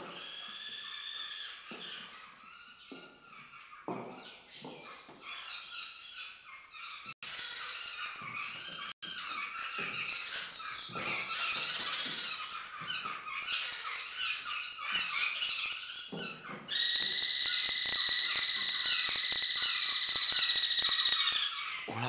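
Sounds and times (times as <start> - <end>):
small birds chirping and twittering: 0.0 - 22.0.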